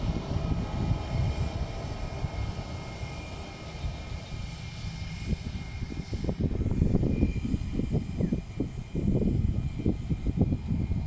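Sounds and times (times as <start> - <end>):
jet engine high whine: 0.0 - 11.0
low uneven rumble: 0.0 - 11.0.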